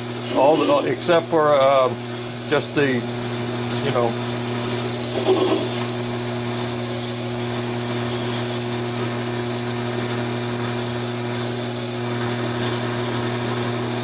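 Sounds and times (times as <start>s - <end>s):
drill boring into steel: 0.0s - 14.0s
lathe motor humming: 0.0s - 14.0s.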